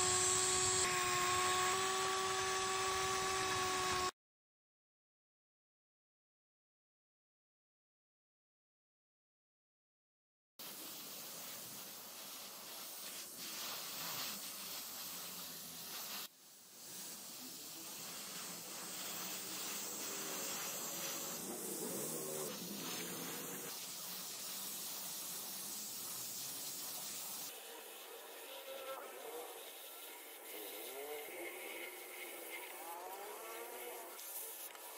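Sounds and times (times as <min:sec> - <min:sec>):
spray paint hissing: 0:00.0 - 0:04.1, 0:10.6 - 0:34.9.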